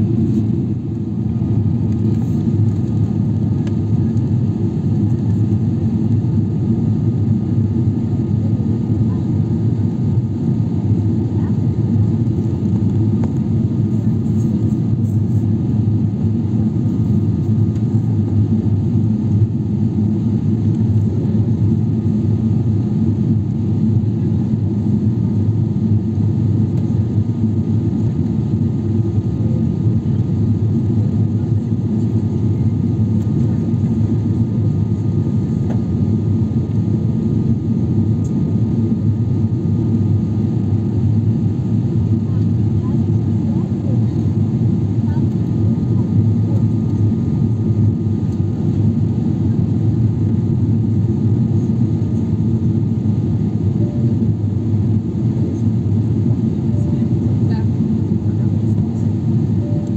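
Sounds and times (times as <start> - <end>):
airliner cabin rumble: 0.0 - 59.9
faint engine whine: 0.0 - 59.9.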